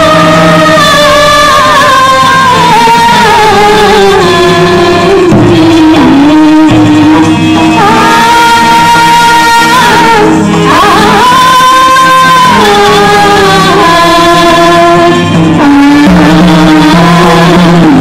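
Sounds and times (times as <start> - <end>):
folk dance music with singing: 0.0 - 18.0.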